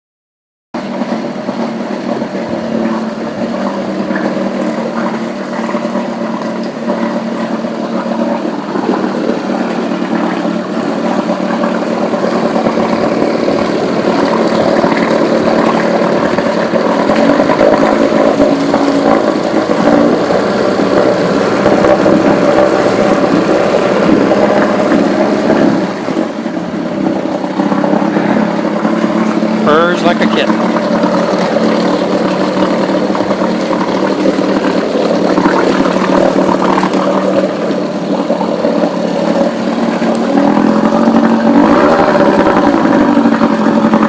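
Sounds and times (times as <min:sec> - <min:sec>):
outboard motor running: 0:00.7 - 0:44.0.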